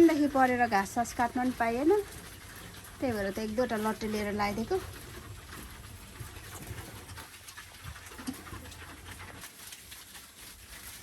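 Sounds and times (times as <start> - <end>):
pigs chewing and crunching: 0.0 - 11.0.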